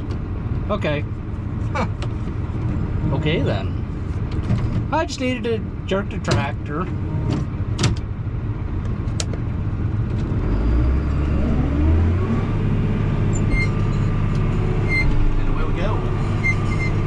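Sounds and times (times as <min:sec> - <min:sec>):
diesel tractor engine running: 0:00.0 - 0:17.0
engine whine: 0:00.0 - 0:17.0.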